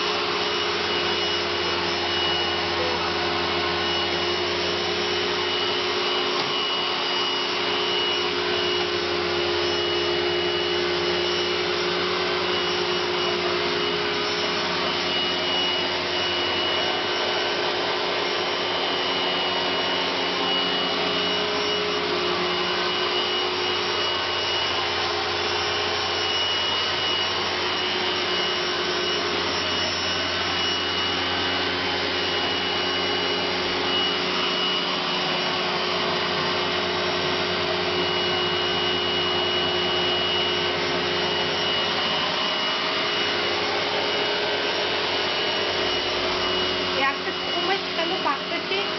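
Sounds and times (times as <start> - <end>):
floor cleaner motor whine: 0.0 - 48.9.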